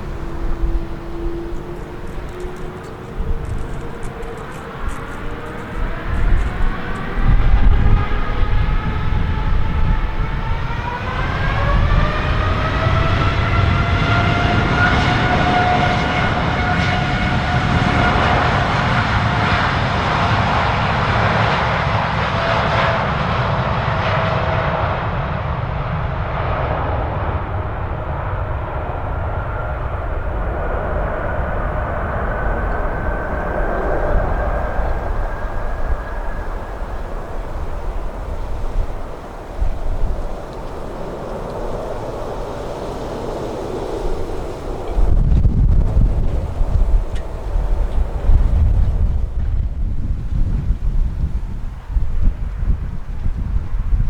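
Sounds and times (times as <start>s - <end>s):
jet engines spooling up: 0.0s - 53.4s
low wind noise rumble: 0.0s - 54.0s.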